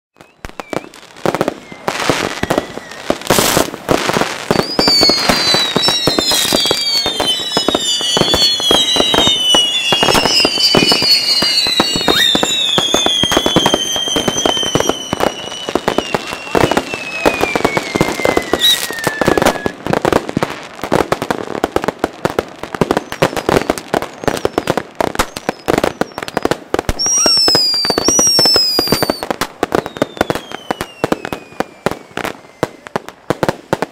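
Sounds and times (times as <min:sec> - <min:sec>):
falling firework whistles: 0:00.2 - 0:21.2, 0:22.8 - 0:33.9
fireworks bangs and crackling: 0:00.2 - 0:33.9.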